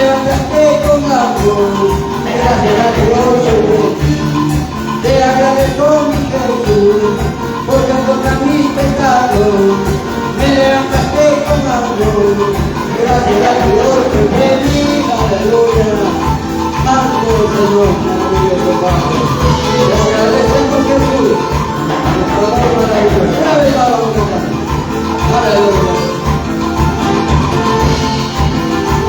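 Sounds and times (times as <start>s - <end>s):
latin-style praise band music: 0.0s - 29.0s.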